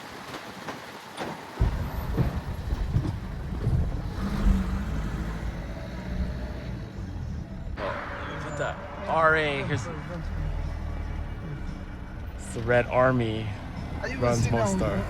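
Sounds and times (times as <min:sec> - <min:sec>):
car road rumble from inside: 0:01.6 - 0:15.0.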